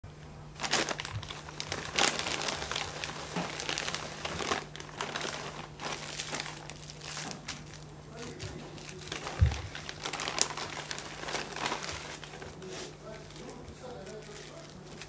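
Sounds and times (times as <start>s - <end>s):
low electrical hum: 0.0s - 15.0s
plastic bags crinkling: 0.6s - 15.0s.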